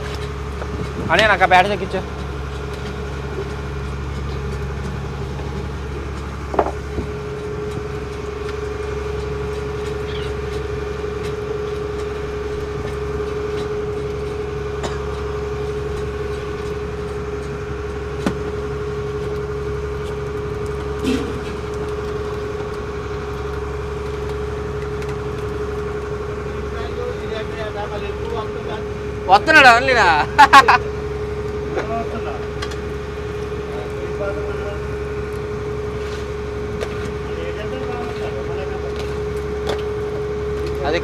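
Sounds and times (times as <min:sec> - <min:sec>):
boat engine running: 0:00.0 - 0:41.0
high steady hum: 0:00.0 - 0:41.0.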